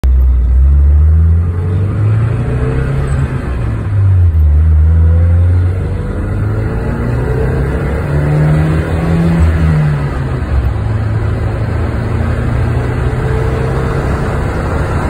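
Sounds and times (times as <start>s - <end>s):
car engine driving: 0.0s - 15.0s.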